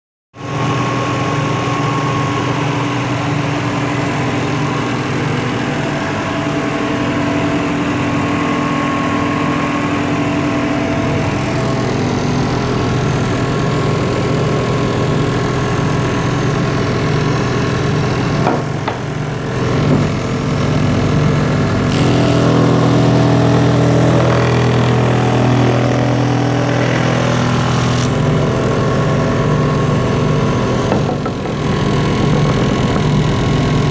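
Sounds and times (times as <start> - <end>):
drum sander motor humming: 0.5 - 33.9.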